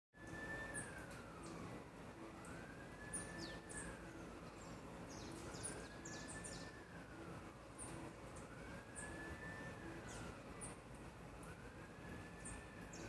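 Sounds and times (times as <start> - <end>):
faint siren wailing: 0.2 - 13.0.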